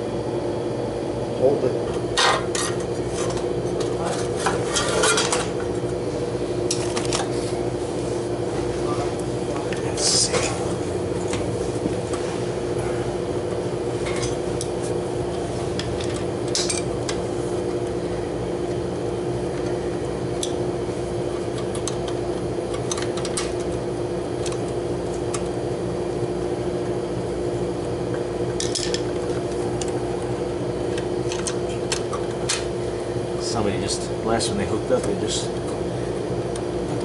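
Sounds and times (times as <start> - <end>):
steady machine hum: 0.0 - 37.0.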